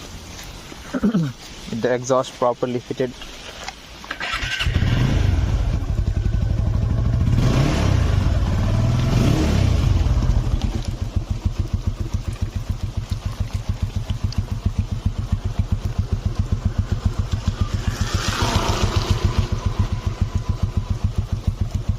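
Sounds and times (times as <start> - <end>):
motorcycle engine revving and idling: 4.1 - 21.9.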